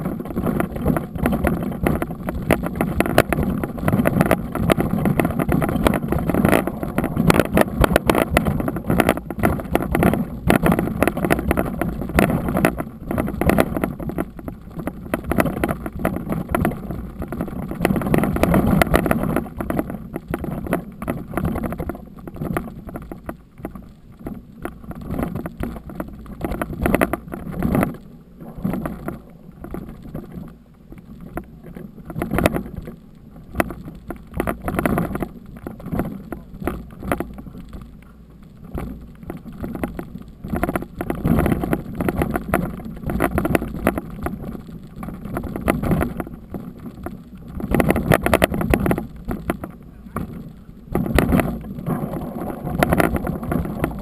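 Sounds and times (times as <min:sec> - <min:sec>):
wind buffeting microphone: 0:00.0 - 0:32.9, 0:38.7 - 0:54.0
bike rattling and knocking: 0:00.0 - 0:54.0
bike tyres crunching over gravel: 0:00.0 - 0:54.0.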